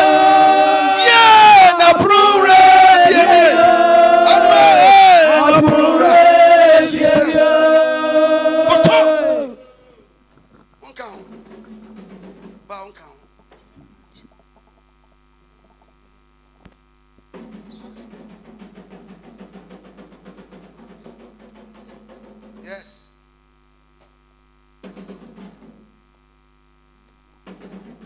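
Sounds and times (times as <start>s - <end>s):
electrical mains hum: 0.0s - 28.0s
faint indistinct noise: 0.0s - 28.0s.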